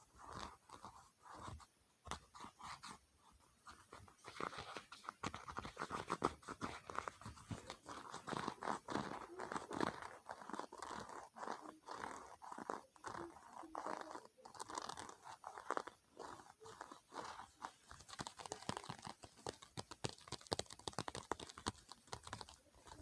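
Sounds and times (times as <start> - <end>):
crisp tapping on objects: 3.9 - 23.0.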